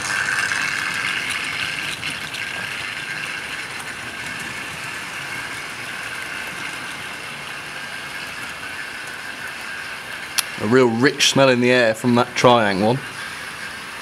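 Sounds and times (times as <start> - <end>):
model trains whirring and rattling: 0.0 - 14.0.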